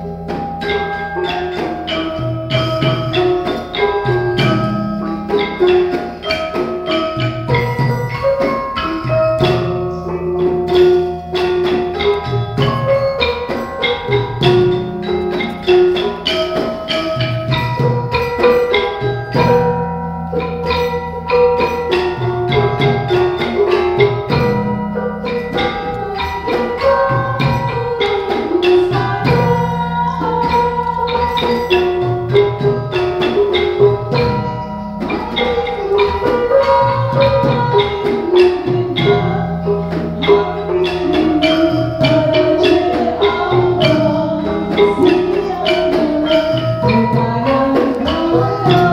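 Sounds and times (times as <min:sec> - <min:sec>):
drum: 0:00.0 - 0:48.9
metallophones struck with mallets: 0:00.0 - 0:48.9.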